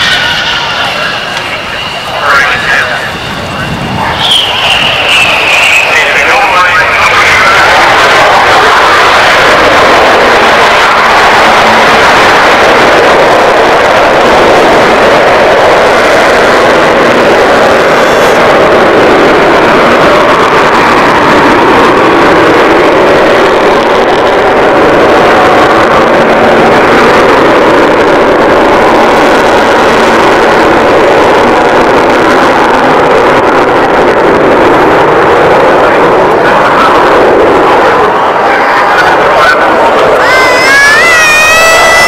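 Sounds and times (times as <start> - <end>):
jet bomber roaring overhead: 0.0 - 42.0.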